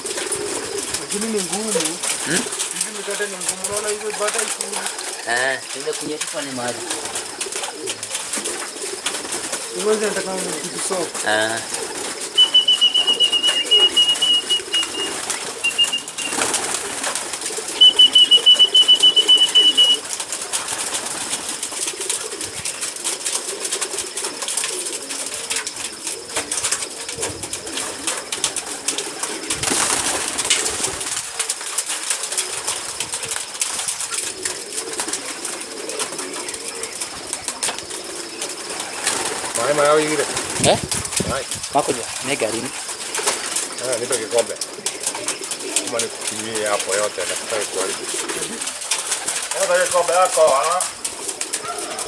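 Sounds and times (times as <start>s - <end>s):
pigeons cooing: 0.0s - 52.0s
wing flutters: 0.0s - 52.0s.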